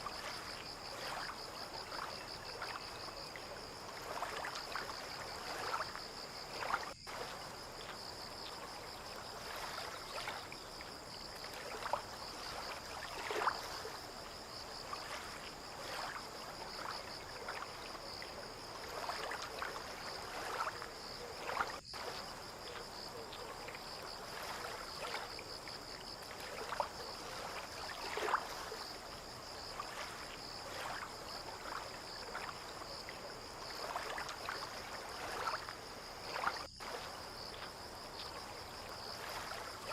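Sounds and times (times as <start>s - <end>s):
insects trilling: 0.0s - 39.9s
water lapping against boats: 0.0s - 39.9s.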